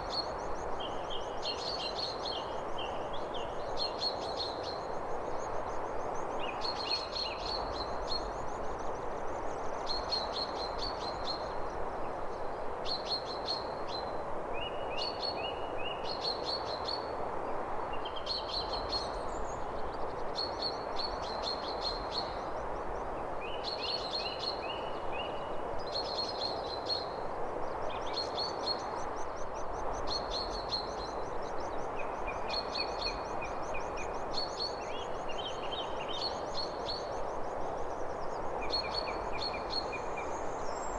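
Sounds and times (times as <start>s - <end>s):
background hiss: 0.0s - 40.9s
songbirds chirping and trilling: 0.0s - 40.9s.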